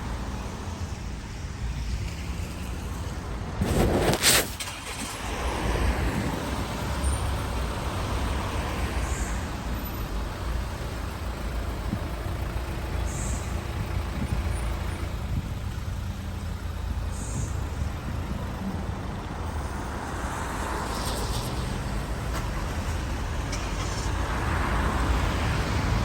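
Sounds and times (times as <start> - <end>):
tyres hissing on wet road: 0.0 - 26.0
vehicle engines rumbling: 0.0 - 26.0.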